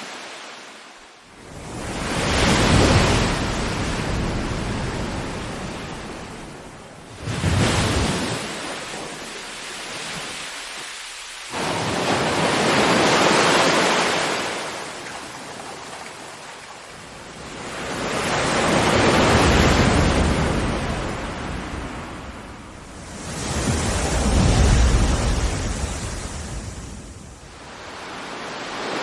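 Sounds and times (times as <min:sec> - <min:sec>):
ocean waves breaking: 0:00.0 - 0:29.0.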